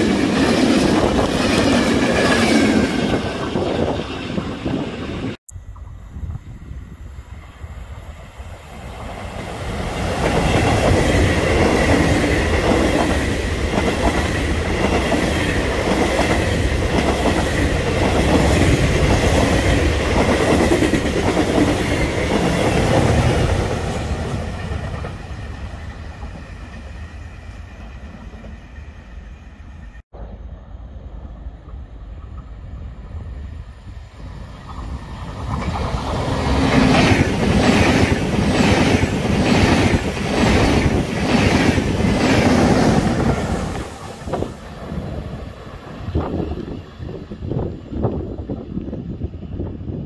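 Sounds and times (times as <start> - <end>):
train high whine: 0.0 - 50.0.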